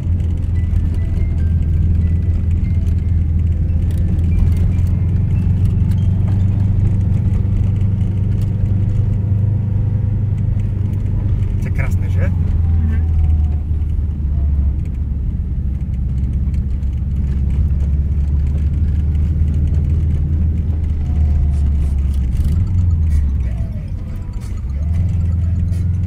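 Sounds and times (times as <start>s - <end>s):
car engine droning inside cabin: 0.0s - 26.0s.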